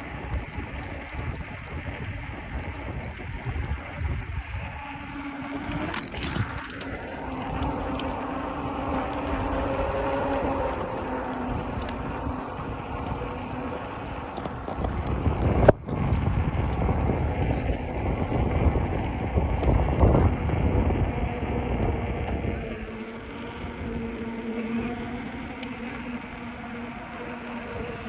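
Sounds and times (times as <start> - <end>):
bicycle rolling noise: 0.0 - 28.0
wind rumbling on microphone: 0.0 - 28.0.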